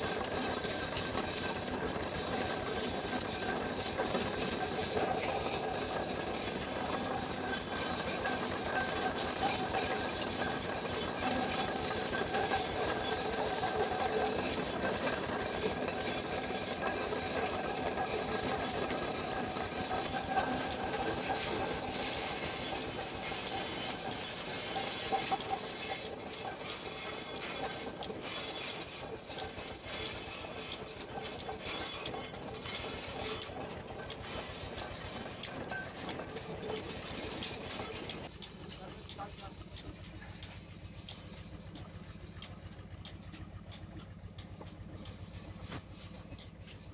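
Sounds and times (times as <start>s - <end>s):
machine mechanical rattle: 0.0s - 46.9s.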